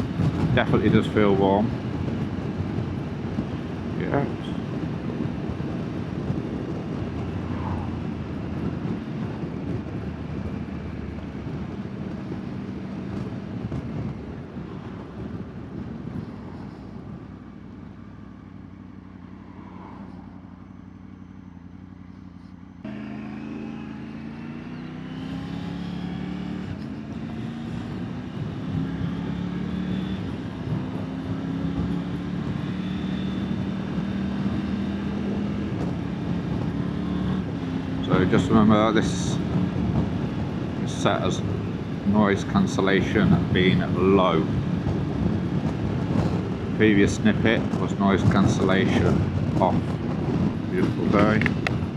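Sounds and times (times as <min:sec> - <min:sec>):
motorcycle engine shifting gears: 0:00.0 - 0:51.9
road wind noise: 0:00.0 - 0:51.9.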